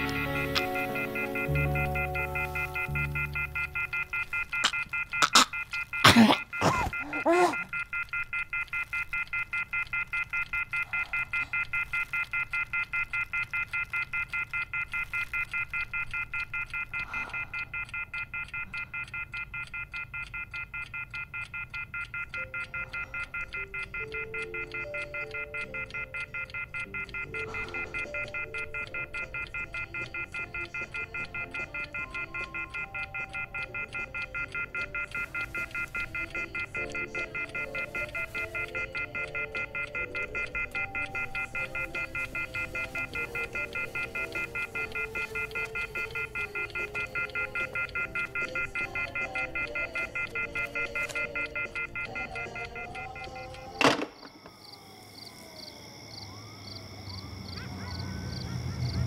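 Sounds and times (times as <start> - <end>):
quiet low music: 0.0 - 5.0, 6.0 - 54.2
telephone off-hook warning tone: 0.0 - 59.0.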